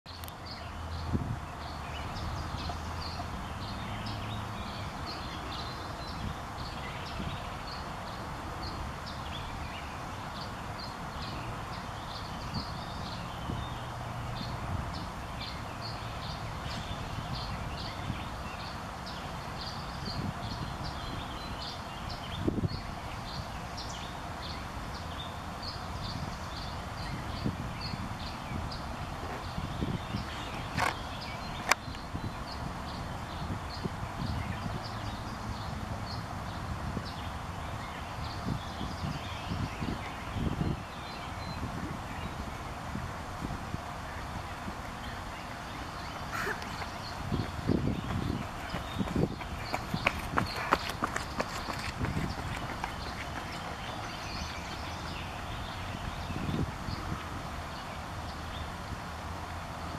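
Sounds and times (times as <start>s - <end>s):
small birds chirping: 0.1s - 59.0s.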